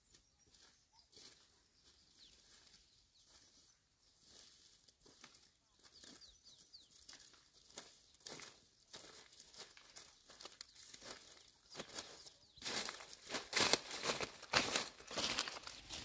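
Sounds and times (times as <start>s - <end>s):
faint bird chirps: 0.0s - 13.2s.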